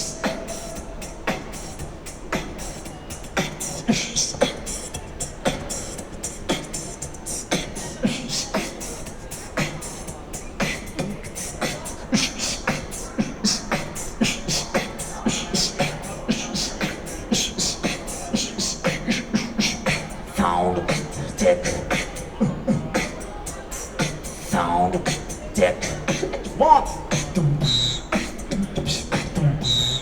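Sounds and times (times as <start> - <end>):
person beatboxing: 0.0 - 30.0.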